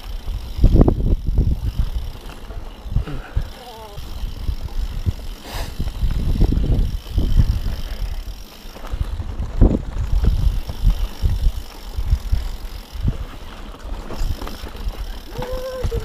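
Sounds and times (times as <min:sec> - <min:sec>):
bike rattling over rough trail: 0:00.0 - 0:16.0
wind buffeting microphone: 0:00.0 - 0:16.0.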